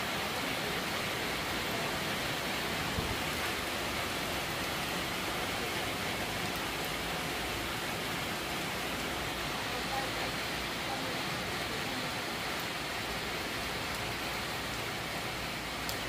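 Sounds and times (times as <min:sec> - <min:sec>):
rain on standing water: 0:00.0 - 0:16.0.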